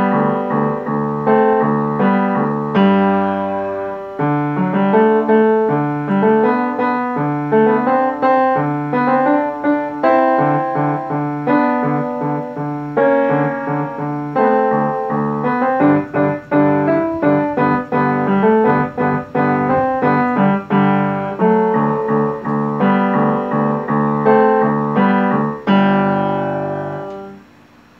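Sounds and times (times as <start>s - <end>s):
upright piano playing: 0.0s - 27.5s.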